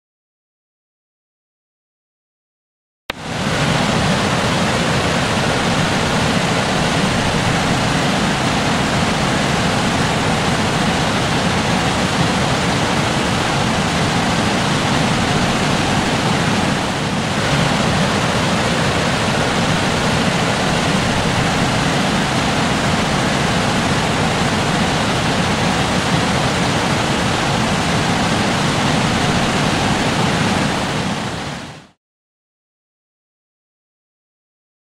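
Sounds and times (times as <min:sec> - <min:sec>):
water rushing over weir: 0:03.1 - 0:32.0.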